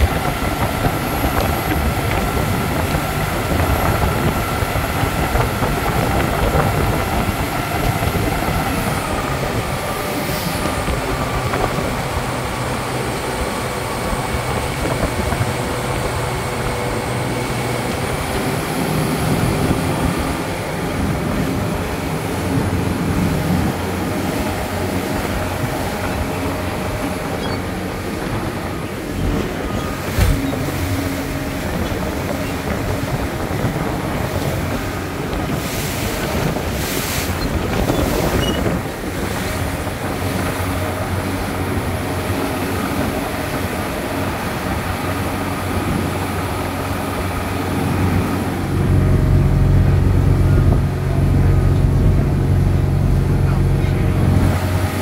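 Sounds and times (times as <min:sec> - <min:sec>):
churning wake and spray: 0:00.0 - 0:55.0
motorboat engine drone: 0:00.0 - 0:55.0.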